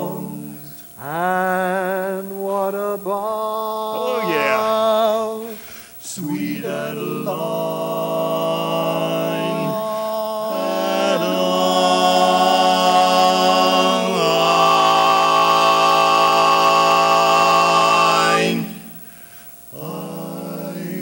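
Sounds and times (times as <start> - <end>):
men singing close harmony: 0.0 - 19.1, 19.7 - 21.0.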